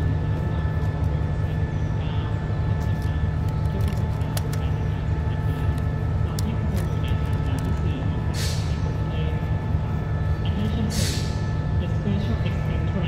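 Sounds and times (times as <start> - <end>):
train engine idling: 0.0 - 13.0.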